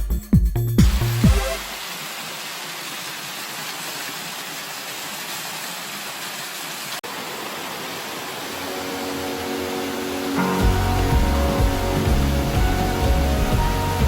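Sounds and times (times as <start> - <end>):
stream water rushing over rocks: 1.2 - 14.0.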